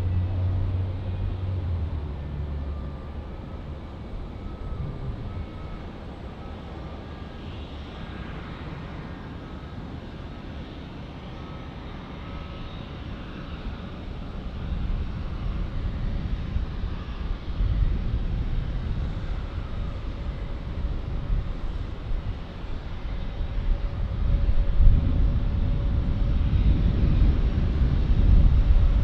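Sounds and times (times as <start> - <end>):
faint high engine whine: 0.0 - 29.0
jet engines rumbling: 0.0 - 29.0.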